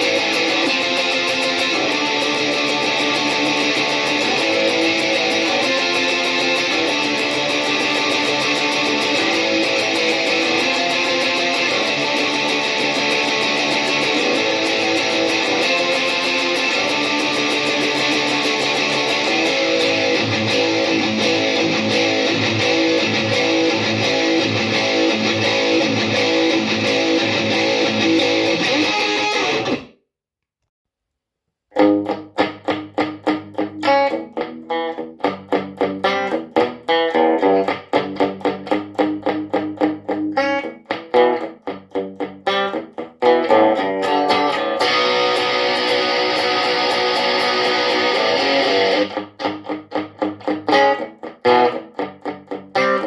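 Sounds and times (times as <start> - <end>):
guitar playing chords and notes: 0.0 - 30.0, 31.7 - 53.0.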